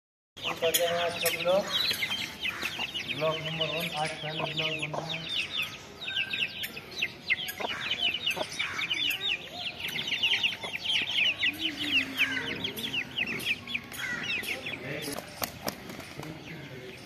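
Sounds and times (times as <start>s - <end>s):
chicks peeping: 0.4s - 17.0s.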